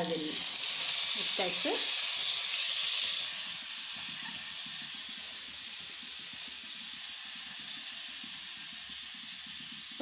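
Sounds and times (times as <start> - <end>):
radish sizzling in hot oil: 0.0 - 10.0.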